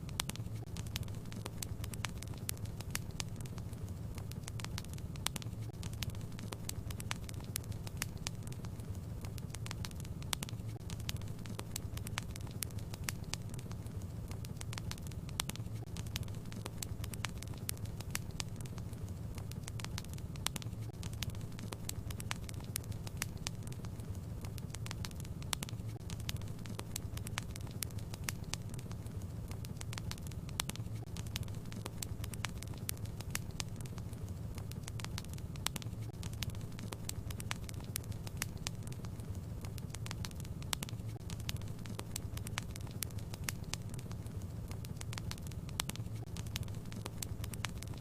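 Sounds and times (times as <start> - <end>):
steady low hum: 0.0 - 48.0
wood fire crackling and popping: 0.0 - 48.0.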